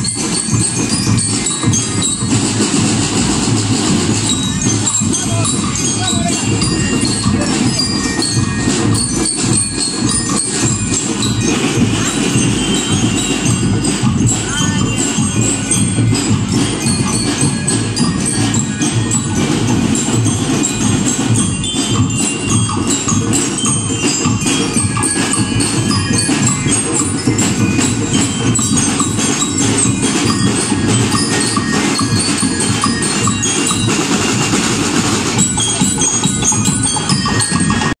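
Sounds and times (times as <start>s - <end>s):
bell lyre notes: 0.0s - 38.0s
marching drums beat: 0.0s - 38.0s.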